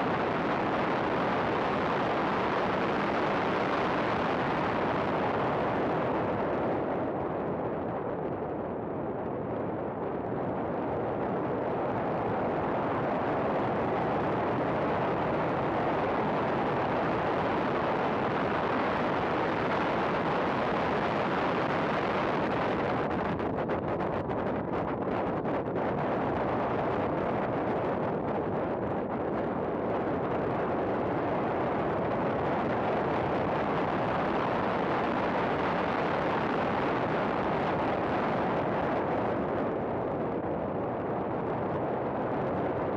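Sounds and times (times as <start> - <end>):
wind noise: 0.0 - 42.9.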